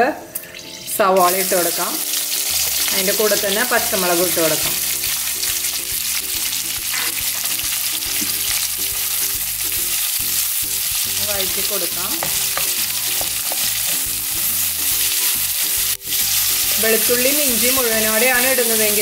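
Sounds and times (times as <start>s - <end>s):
onions sizzling in hot oil: 0.4s - 19.0s.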